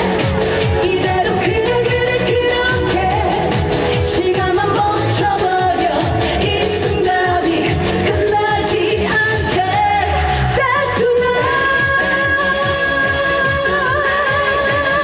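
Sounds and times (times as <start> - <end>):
backing track with drum beat: 0.0 - 15.0
woman singing pop song: 0.0 - 15.0.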